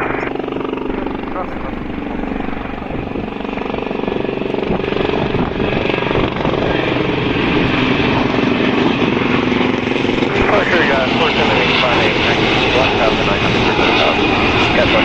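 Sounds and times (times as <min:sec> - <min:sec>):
aircraft engines at takeoff power: 0:00.0 - 0:15.0.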